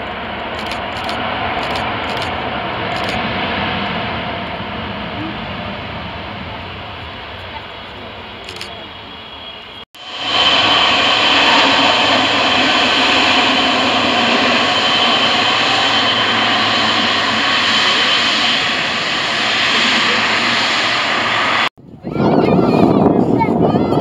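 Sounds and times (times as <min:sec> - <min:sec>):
jet engines rushing and whining: 0:00.0 - 0:24.0.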